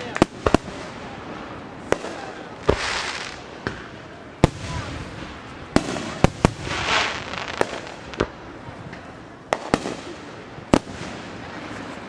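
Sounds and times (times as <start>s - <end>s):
firework crackling hiss: 0.0s - 12.0s.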